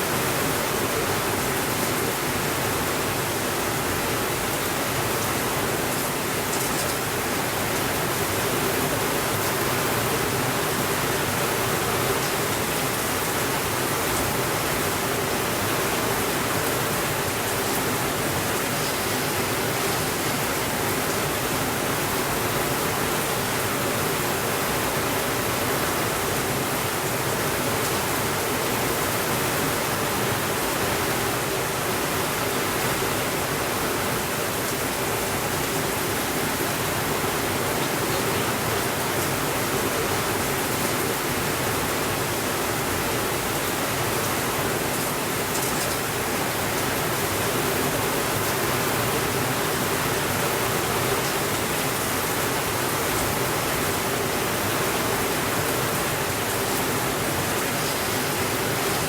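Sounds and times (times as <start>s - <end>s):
steady rainfall hiss: 0.0s - 59.0s.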